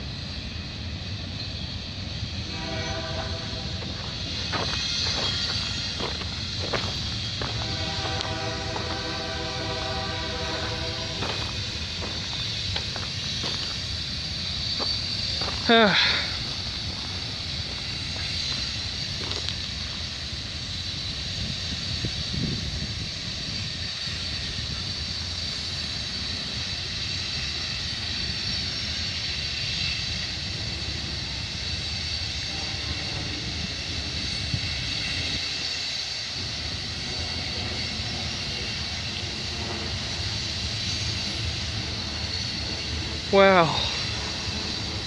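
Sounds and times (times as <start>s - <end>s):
freight train rumbling past: 0.0s - 45.0s.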